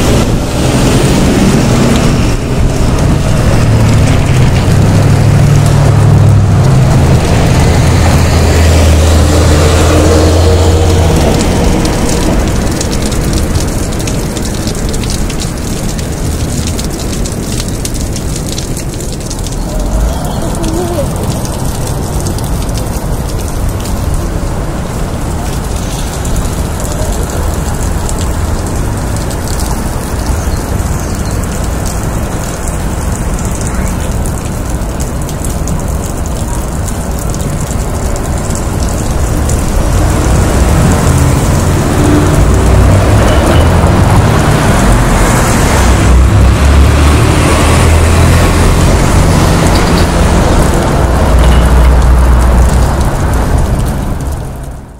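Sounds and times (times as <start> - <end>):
city traffic rumble: 0.0 - 54.9
meltwater dripping on sidewalk: 0.0 - 54.9
water drops splashing on pavement: 0.0 - 54.9.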